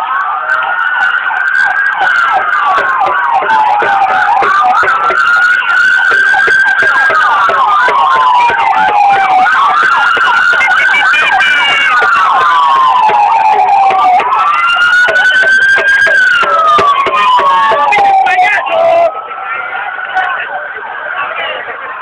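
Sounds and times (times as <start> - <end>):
rapid siren sweeps: 0.0 - 22.0
siren wailing: 0.0 - 22.0.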